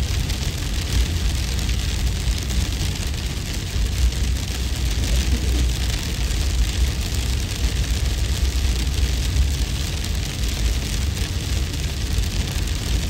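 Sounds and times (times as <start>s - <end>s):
hail hissing: 0.1s - 13.0s.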